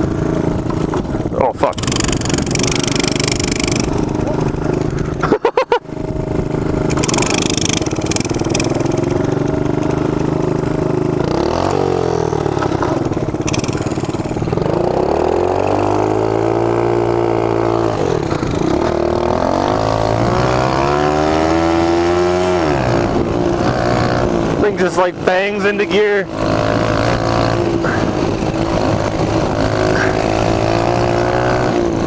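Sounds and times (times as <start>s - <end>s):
small engine running hard: 0.0s - 32.0s.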